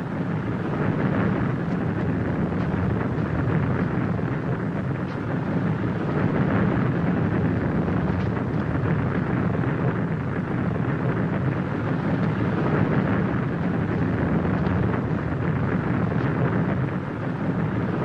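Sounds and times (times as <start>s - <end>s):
bonfire rushing: 0.0s - 18.0s
fire crackles: 0.0s - 18.0s.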